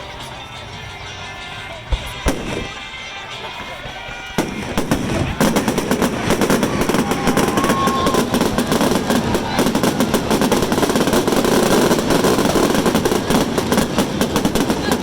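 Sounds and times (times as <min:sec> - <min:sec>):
fireworks bangs and crackles: 0:01.9 - 0:03.0, 0:03.8 - 0:15.0.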